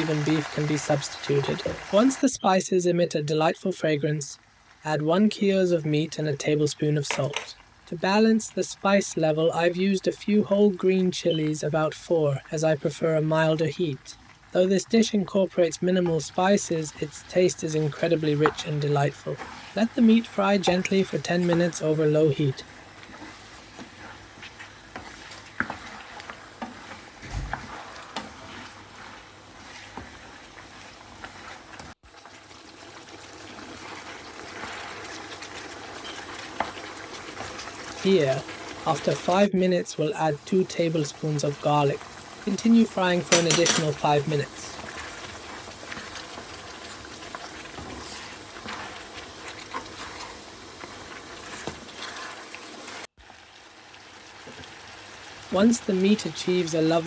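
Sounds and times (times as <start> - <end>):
meat sizzling in oil: 0.0 - 2.3, 12.4 - 57.0.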